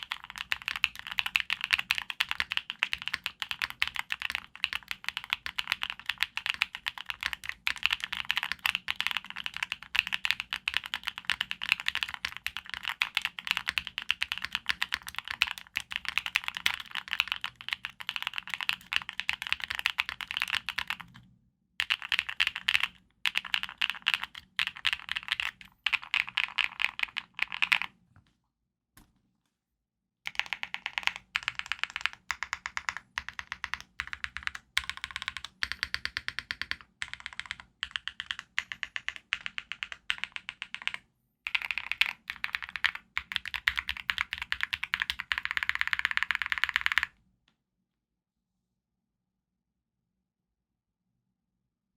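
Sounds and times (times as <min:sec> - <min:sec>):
mechanical keyboard typing: 0:00.0 - 0:21.2, 0:21.8 - 0:27.9, 0:30.3 - 0:47.2.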